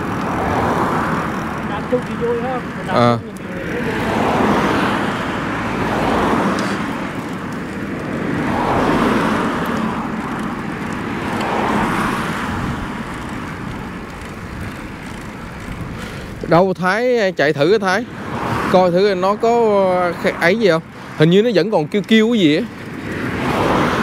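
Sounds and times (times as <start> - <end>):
bicycle tyre noise: 0.0 - 24.0
road traffic passing: 0.0 - 24.0
wind: 0.0 - 24.0.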